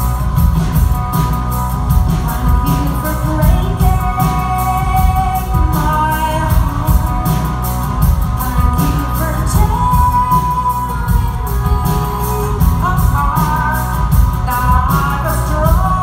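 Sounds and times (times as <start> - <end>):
keyboards: 0.0 - 16.0
steady drum beat: 0.0 - 16.0
woman singing: 2.1 - 16.0.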